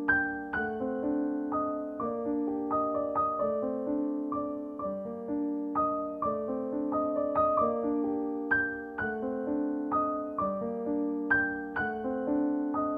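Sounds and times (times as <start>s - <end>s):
piano music: 0.0s - 12.9s.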